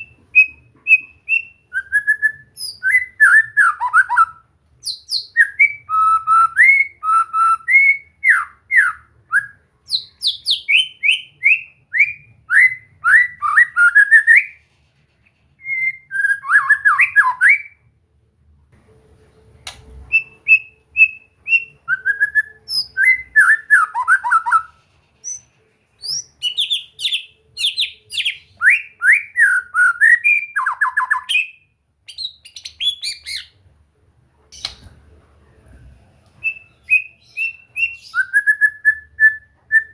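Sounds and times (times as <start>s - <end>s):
bird singing whistled notes: 0.0s - 14.6s, 15.6s - 17.8s, 20.1s - 33.6s, 36.4s - 39.9s.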